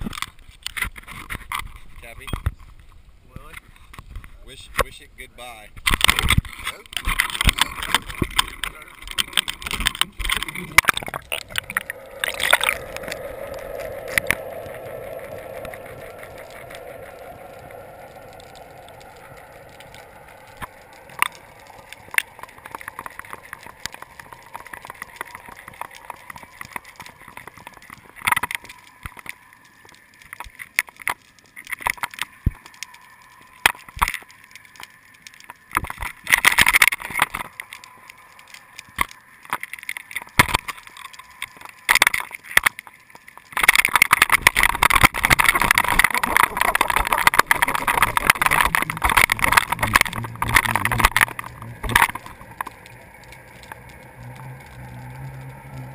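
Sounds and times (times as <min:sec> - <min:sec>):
underwater water rush: 0:03.5 - 0:55.9
underwater clicks and knocks: 0:05.8 - 0:55.9.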